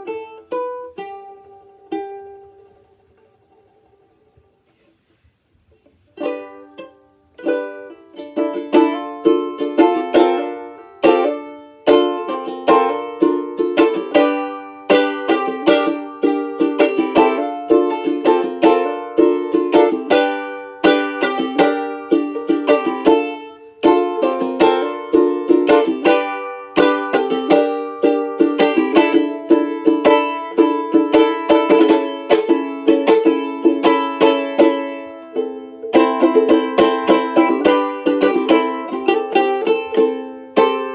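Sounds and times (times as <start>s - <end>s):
banjo-ukulele strumming chords: 0.0s - 4.9s, 5.7s - 40.9s.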